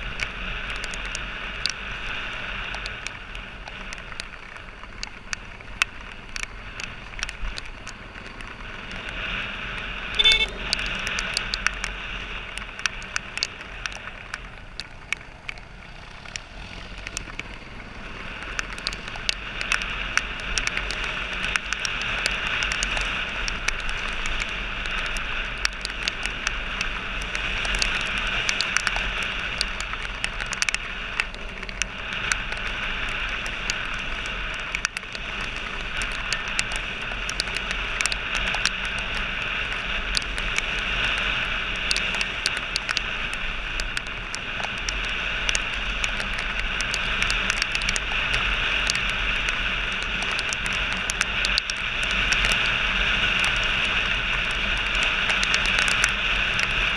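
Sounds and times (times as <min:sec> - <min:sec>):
dirt bike engine running: 0:00.0 - 0:56.9
small clicks and crackles: 0:00.0 - 0:56.9.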